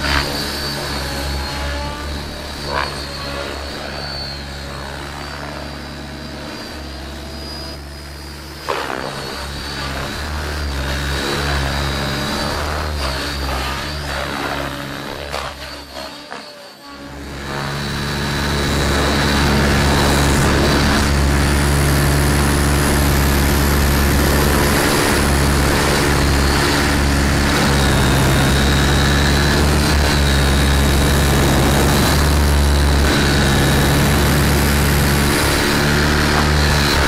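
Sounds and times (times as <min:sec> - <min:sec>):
rc helicopter motor and rotor whine: 0:00.0 - 0:37.0.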